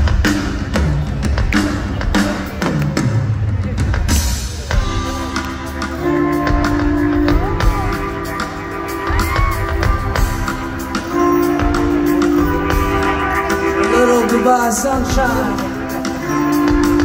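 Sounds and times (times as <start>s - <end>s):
drums: 0.0s - 17.0s
live rock band music: 0.0s - 17.0s.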